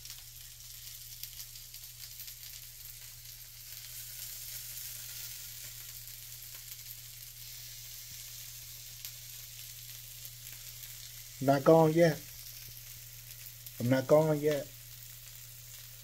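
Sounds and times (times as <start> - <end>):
food sizzling and popping: 0.0 - 16.0.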